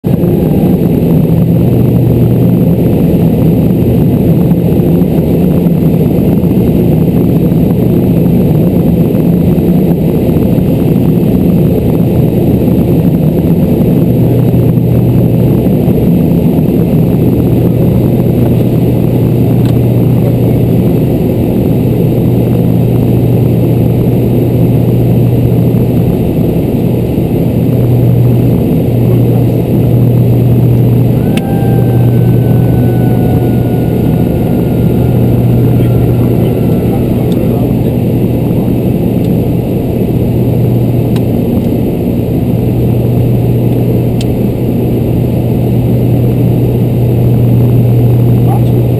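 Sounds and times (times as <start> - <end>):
turboprop engines droning: 0.0 - 48.9.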